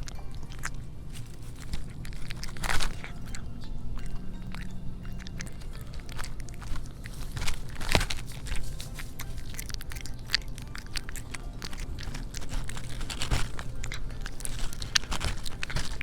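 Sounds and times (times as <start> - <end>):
cats chewing and lapping: 0.0 - 16.0
wet clicks and smacks: 0.0 - 16.0.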